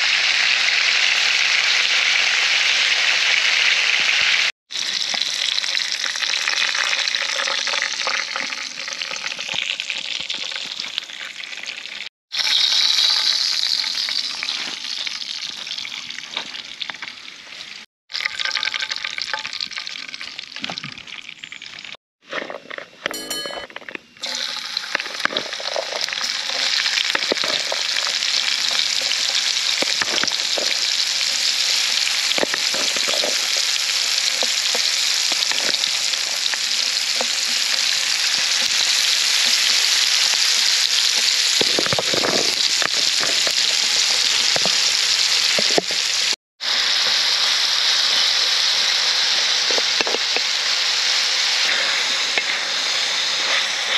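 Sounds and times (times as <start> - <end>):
meat sizzling in frying pan: 0.0 - 15.9, 24.2 - 53.9
vegetables frying in oil: 0.0 - 22.0, 24.2 - 53.9.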